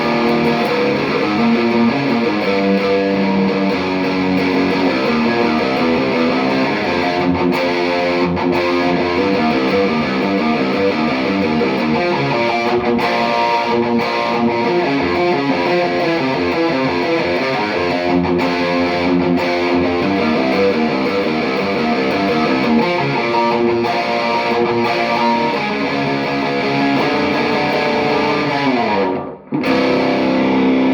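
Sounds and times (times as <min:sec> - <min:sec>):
distorted electric guitar riffs: 0:00.0 - 0:30.9.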